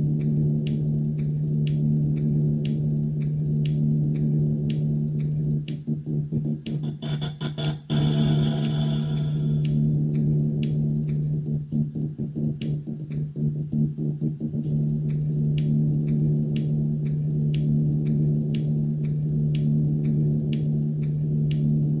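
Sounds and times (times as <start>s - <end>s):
low synthesized drone: 0.0s - 22.0s.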